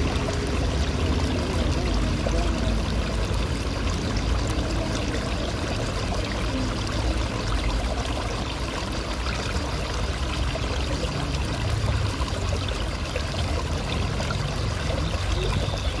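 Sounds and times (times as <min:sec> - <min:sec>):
water pouring into a pool: 0:00.0 - 0:16.0.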